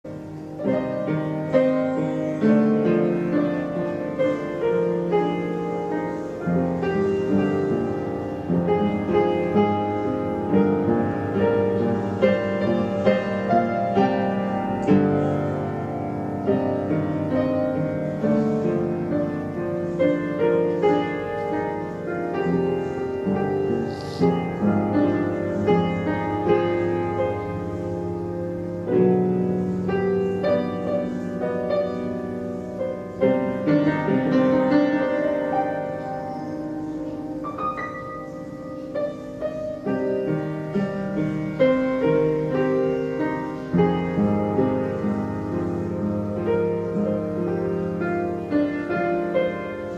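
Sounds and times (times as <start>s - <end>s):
slow piano music: 0.0s - 49.9s.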